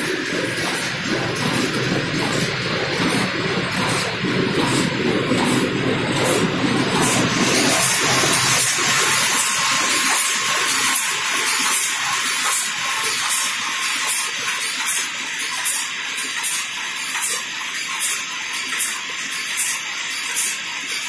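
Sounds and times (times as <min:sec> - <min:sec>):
coating machine hissing: 0:00.0 - 0:17.5.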